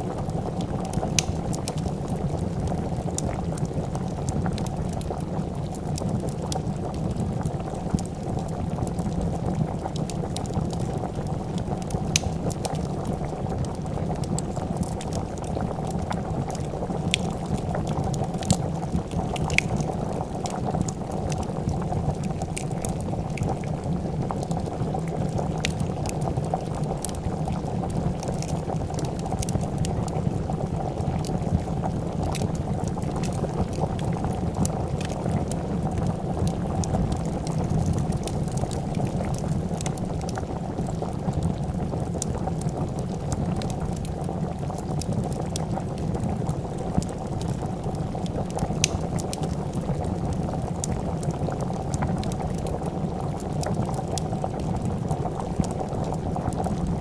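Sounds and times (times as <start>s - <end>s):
soup bubbling in a pot: 0.0s - 57.0s
wood fire crackling: 0.0s - 57.0s.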